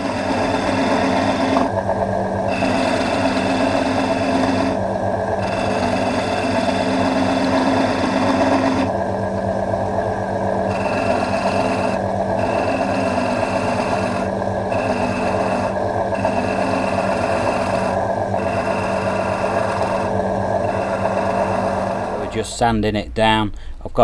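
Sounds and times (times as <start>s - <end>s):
turning tool scraping wood: 0.0s - 1.7s, 2.5s - 4.8s, 5.4s - 8.9s, 10.7s - 22.6s
small electric motor running: 0.0s - 9.0s, 10.6s - 22.4s.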